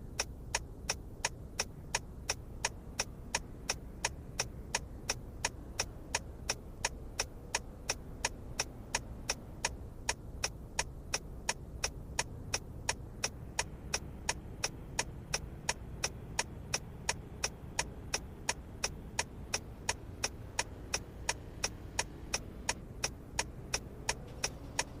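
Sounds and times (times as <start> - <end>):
turn signal ticking: 0.0 - 25.0.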